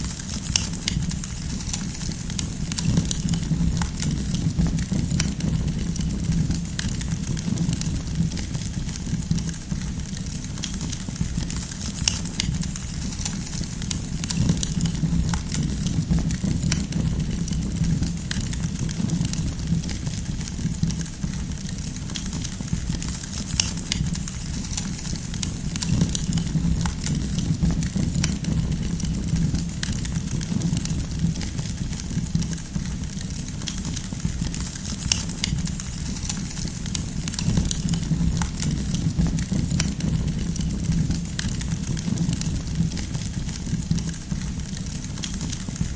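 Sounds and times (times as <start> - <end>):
campfire rumble: 0.0 - 45.9
firewood crackling and popping: 0.0 - 45.9.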